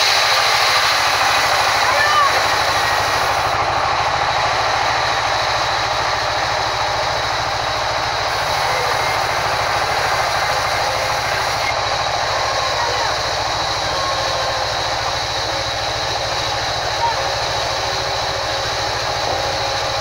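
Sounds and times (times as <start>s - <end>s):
band saw cutting wood: 0.0s - 20.0s.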